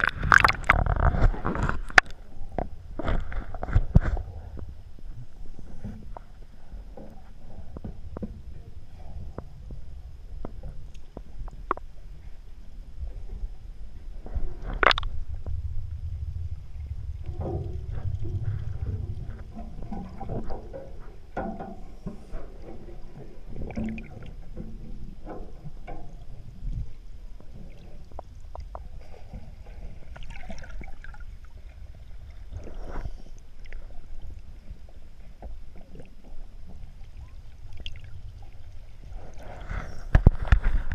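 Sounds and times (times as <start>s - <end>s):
low rumble: 0.0s - 40.9s
water lapping around a boat: 0.0s - 40.9s.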